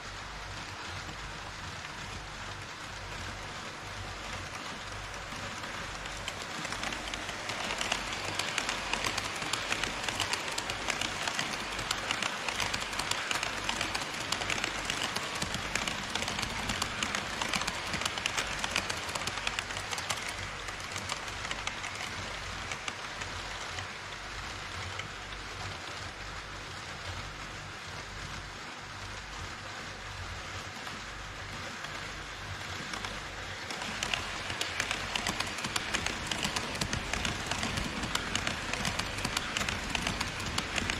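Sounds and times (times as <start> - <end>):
model train wheels clicking: 0.0 - 40.9.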